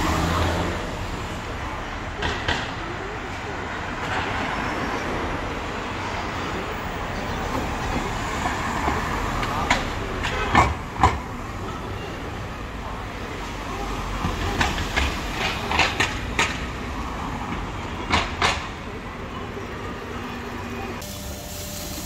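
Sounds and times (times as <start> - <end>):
traffic rumble and hiss: 0.0 - 22.0.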